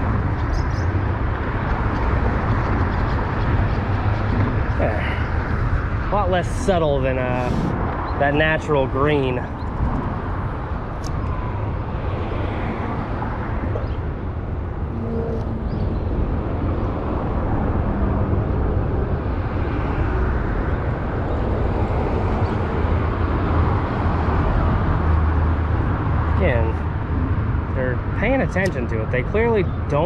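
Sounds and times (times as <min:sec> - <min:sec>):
highway traffic rumble: 0:00.0 - 0:30.0.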